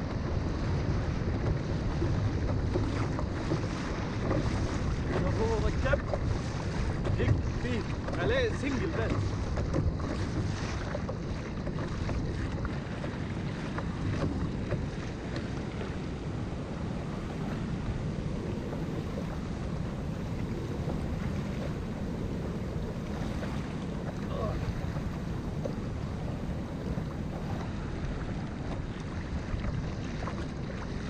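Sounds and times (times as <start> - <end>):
choppy water washing around kayak: 0.0 - 31.0
wind buffeting microphone: 0.0 - 31.0.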